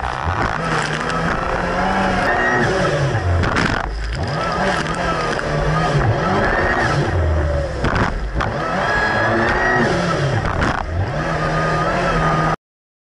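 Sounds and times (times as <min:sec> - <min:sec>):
jet ski engine running hard: 0:00.0 - 0:12.6.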